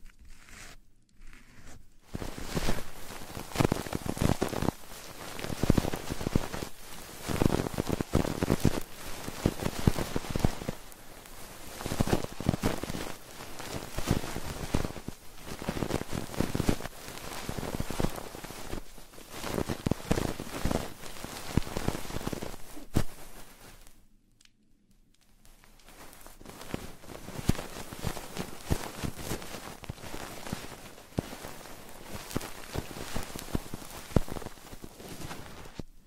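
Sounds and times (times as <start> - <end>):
scratching and rustling on microphone: 0.0 - 24.0, 25.4 - 36.0.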